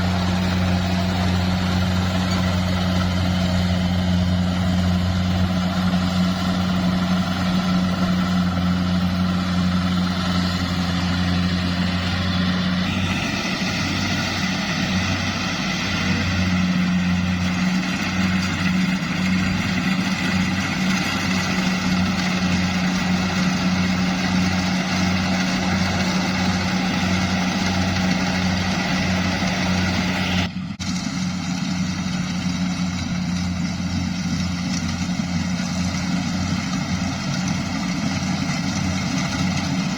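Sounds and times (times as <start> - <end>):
farm machine engine humming: 0.0 - 39.9.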